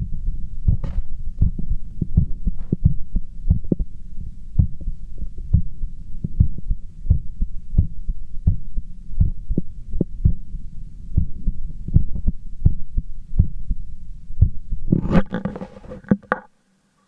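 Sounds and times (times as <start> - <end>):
heartbeat through stethoscope: 0.0 - 15.0.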